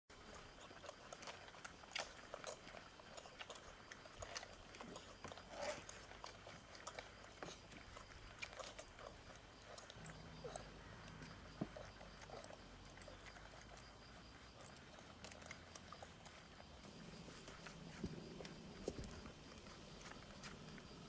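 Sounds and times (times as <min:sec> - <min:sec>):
puppies suckling: 0:00.1 - 0:21.0.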